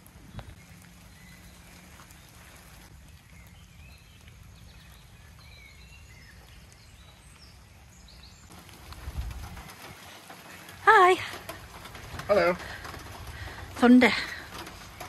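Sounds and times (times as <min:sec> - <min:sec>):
birds chirping: 0:00.0 - 0:15.0
rain hiss: 0:00.0 - 0:15.0.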